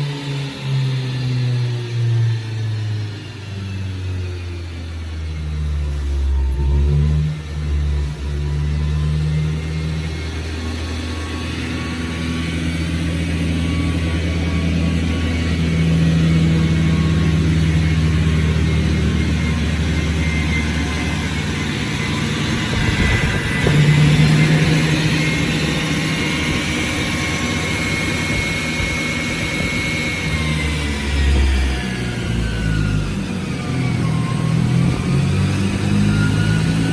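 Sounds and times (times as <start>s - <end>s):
car engine running: 0.0s - 36.9s.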